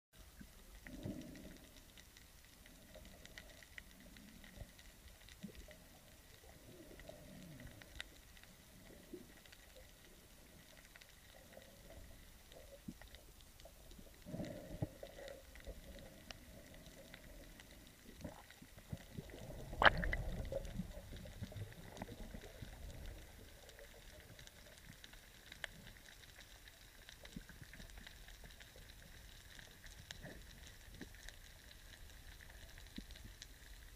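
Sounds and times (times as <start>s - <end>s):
low underwater rumbles: 0.2s - 33.9s
muffled underwater movement: 0.2s - 33.9s.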